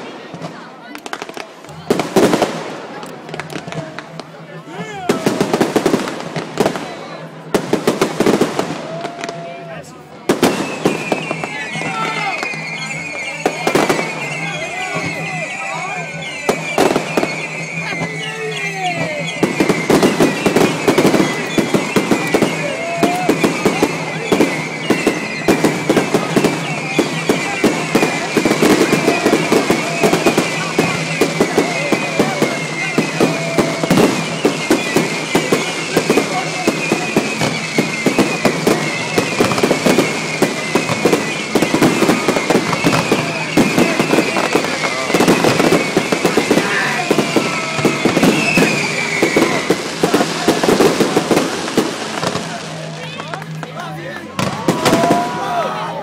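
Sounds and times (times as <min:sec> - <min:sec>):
fireworks bangs and crackling pops: 0:00.0 - 0:56.0
firework whistles gliding in pitch: 0:04.6 - 0:56.0.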